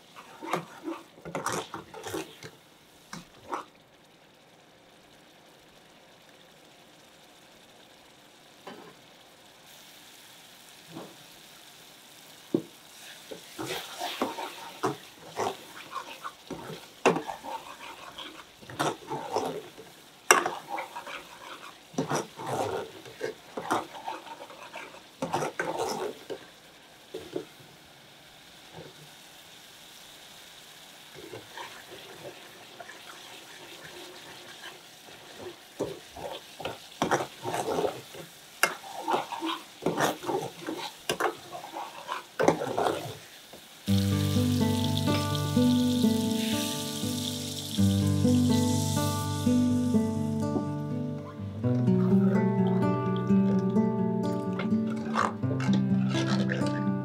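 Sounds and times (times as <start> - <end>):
curry base sizzling in oil: 0.0 - 57.0.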